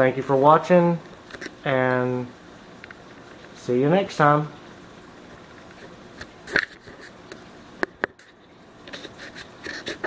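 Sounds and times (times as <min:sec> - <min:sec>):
aquarium water noise: 0:00.0 - 0:10.0.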